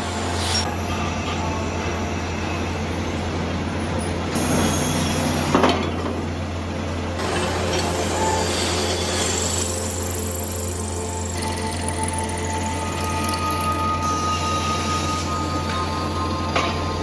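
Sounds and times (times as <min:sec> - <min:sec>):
factory machinery running: 0:00.0 - 0:17.0.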